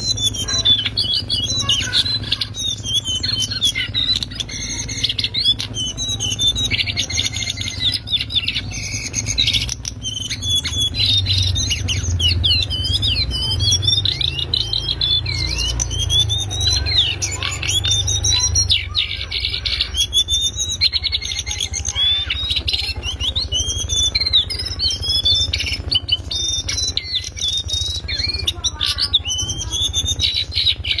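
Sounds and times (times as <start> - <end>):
bird singing chattering trills: 0.0 - 31.0.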